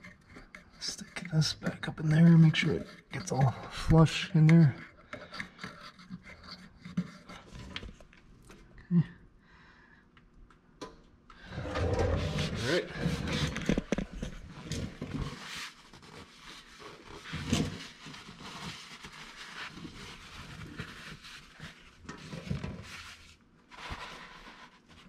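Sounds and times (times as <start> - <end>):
rubbing of parts and tools: 0.0 - 8.1, 11.6 - 25.0.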